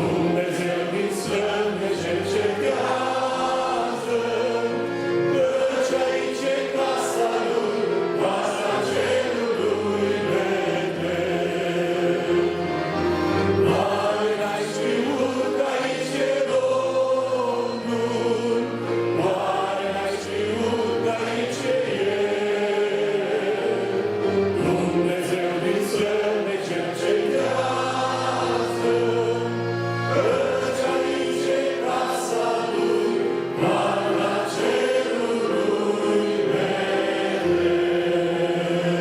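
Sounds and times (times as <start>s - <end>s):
church choir singing a hymn: 0.0s - 39.0s
instrumental accompaniment: 0.0s - 39.0s.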